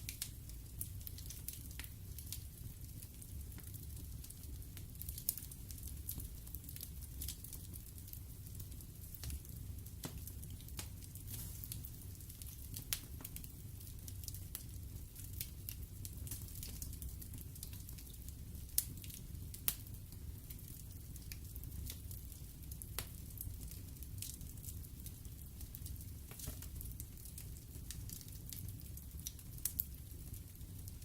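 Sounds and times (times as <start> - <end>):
fire rumbling and hissing: 0.0 - 31.0
logs crackling and popping: 0.0 - 31.0.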